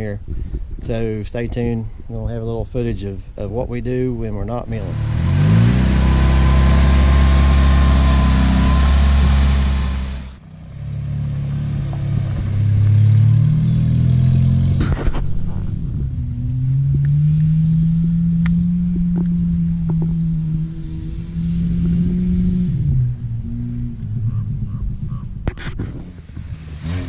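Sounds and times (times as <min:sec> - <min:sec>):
car engine revving: 0:04.3 - 0:27.0.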